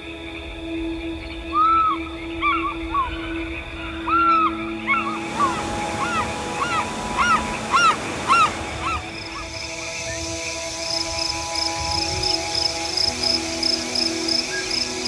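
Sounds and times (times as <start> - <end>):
steady humming tones: 0.0 - 15.0
birds calling: 1.5 - 15.0.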